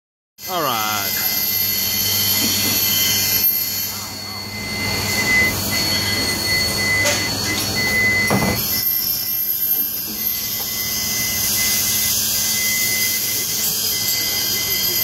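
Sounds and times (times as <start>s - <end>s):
high whine: 0.4s - 15.0s.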